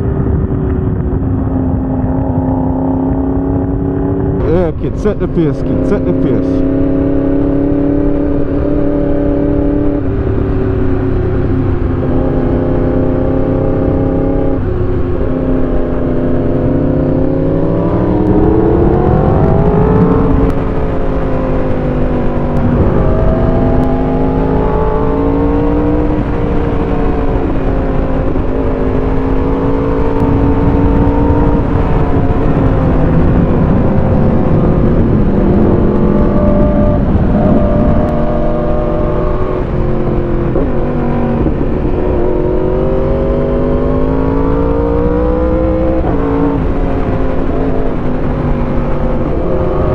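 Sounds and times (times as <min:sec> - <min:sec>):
low rush: 0:00.0 - 0:49.9
motorcycle engine revving: 0:00.0 - 0:49.9.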